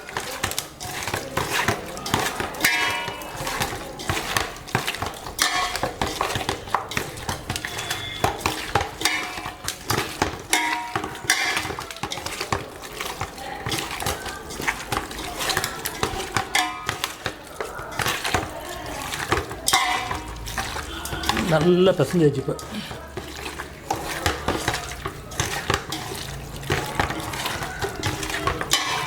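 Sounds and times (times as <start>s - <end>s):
clinks and knocks against bowl: 0.0s - 12.7s, 15.0s - 22.2s, 22.8s - 29.0s
hands mixing food in bowl: 0.0s - 29.0s.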